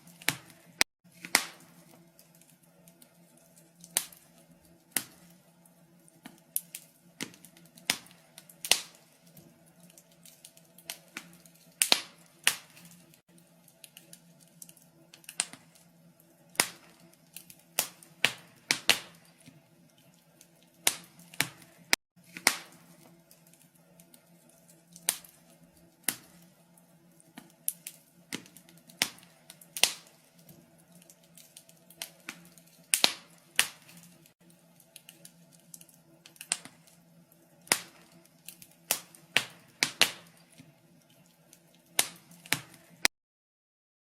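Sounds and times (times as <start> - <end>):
wood fire crackling: 0.0 - 43.1.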